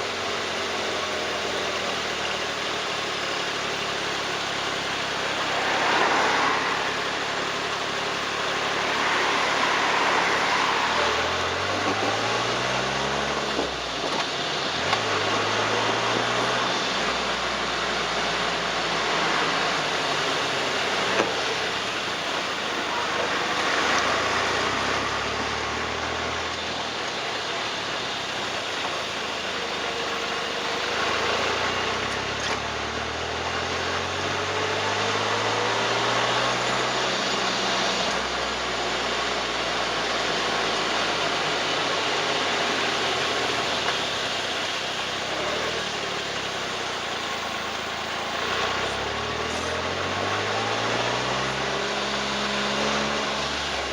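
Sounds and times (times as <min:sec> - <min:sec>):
car engine revving: 0:00.0 - 0:53.9
road and tyre noise: 0:00.0 - 0:53.9.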